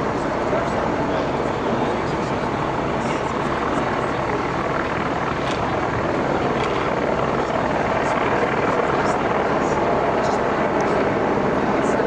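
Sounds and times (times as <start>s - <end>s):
helicopter rotor drone: 0.0s - 12.0s.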